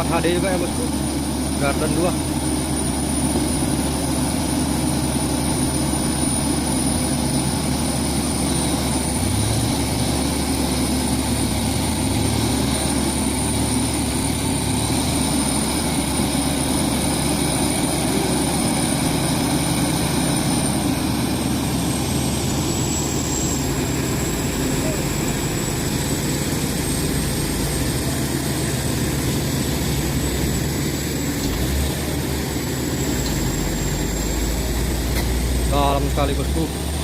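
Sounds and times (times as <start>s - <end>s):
truck diesel engine running: 0.0s - 37.0s.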